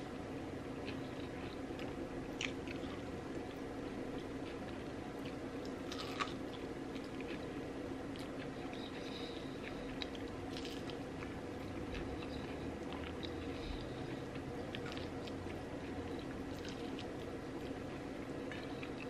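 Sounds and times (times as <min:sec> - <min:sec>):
steady low hum: 0:00.0 - 0:19.0
chewing and biting food: 0:00.8 - 0:19.0.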